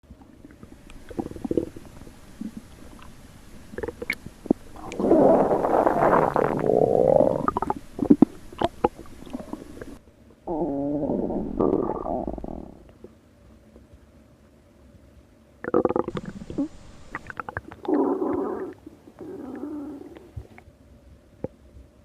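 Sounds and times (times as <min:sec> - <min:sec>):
stomach growling: 0:00.4 - 0:13.2, 0:15.6 - 0:20.6.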